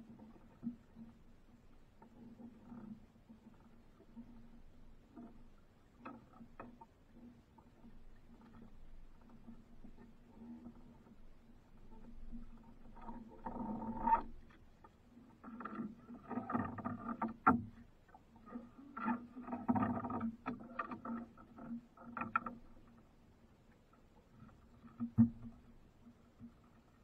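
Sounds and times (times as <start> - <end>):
water sloshing against boat hull: 0.0 - 27.0.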